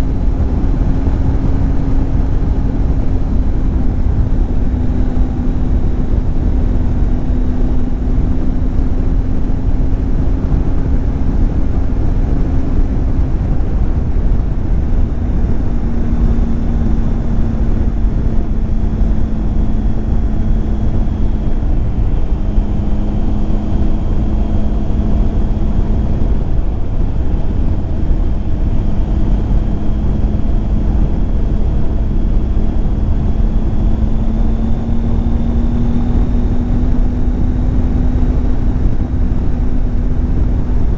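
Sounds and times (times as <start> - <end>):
motorcycle engine cruising: 0.0 - 40.9
wind noise: 0.0 - 40.9.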